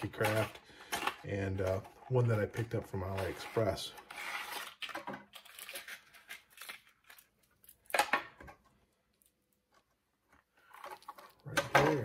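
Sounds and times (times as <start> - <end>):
package rustling and scraping: 0.0 - 7.3, 9.7 - 12.0.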